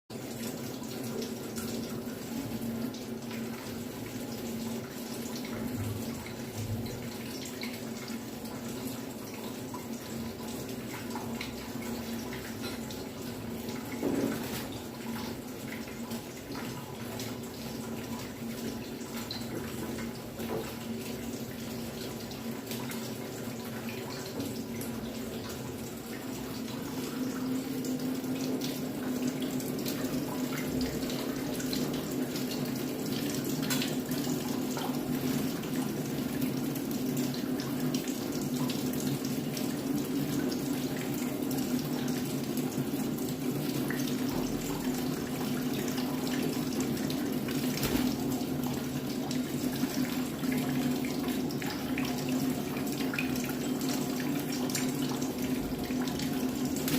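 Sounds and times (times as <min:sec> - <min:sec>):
running water: 0:00.1 - 0:56.9.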